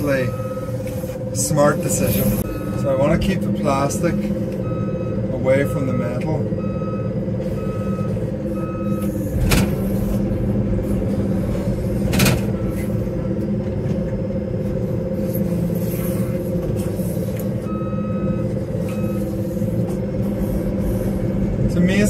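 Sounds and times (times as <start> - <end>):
reversing alarm beeping: 0.0 - 13.6, 15.0 - 22.0
diesel engine running: 0.0 - 22.0.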